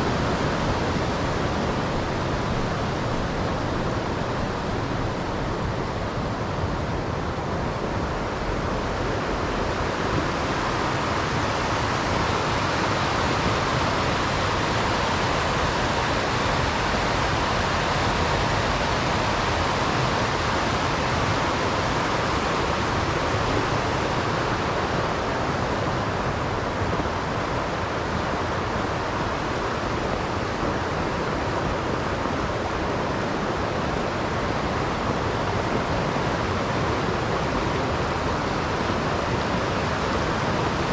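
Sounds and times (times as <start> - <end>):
waterfall water rushing: 0.0 - 40.9.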